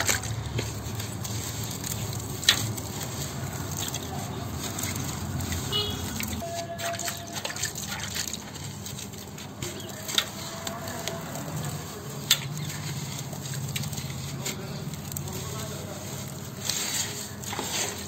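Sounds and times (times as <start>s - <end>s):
water dripping and splashing: 0.0s - 18.0s
wet sand crunching: 0.0s - 18.0s.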